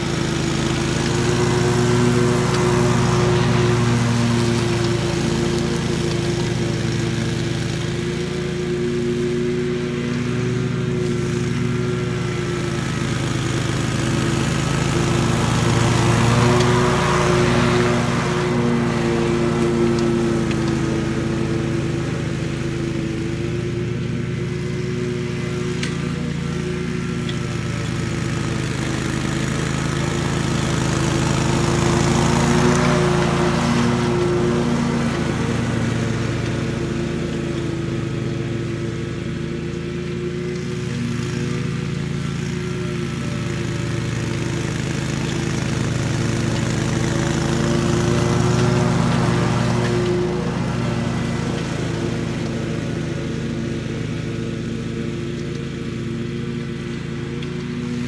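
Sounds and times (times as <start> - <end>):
lawn mower engine cutting grass: 0.0 - 58.0.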